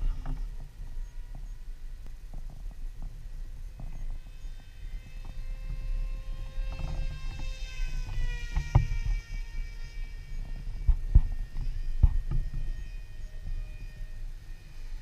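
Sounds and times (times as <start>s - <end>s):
wind buffeting microphone: 0.0s - 14.5s
electric motor and propeller whining: 0.0s - 15.0s.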